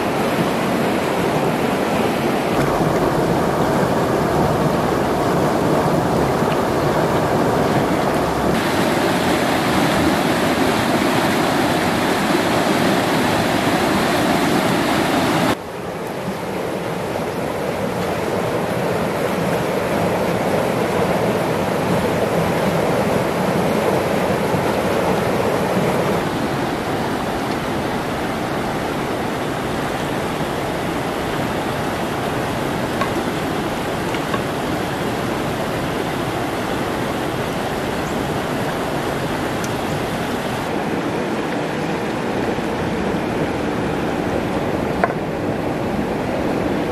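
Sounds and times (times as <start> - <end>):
water rushing through rapids: 0.0 - 46.9.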